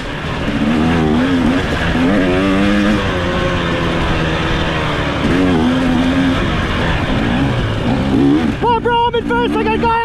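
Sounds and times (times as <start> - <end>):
off-road engine under throttle: 0.0 - 10.0.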